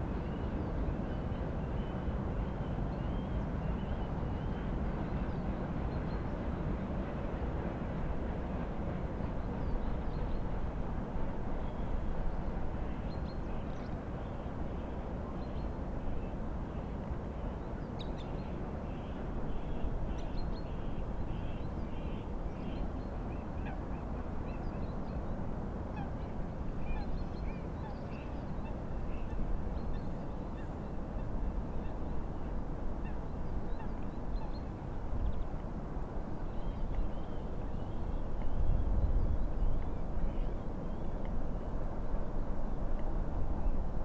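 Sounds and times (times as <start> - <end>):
wind: 0.0 - 44.0.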